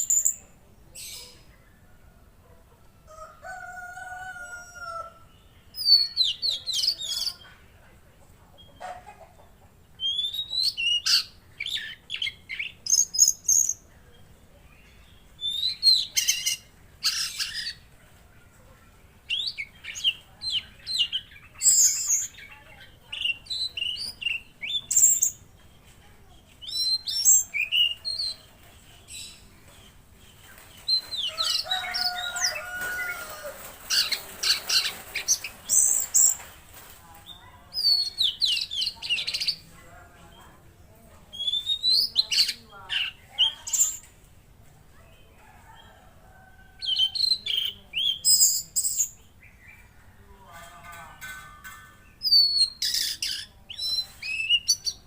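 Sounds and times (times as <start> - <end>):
songbird singing chirps and trills: 0.0 - 55.0.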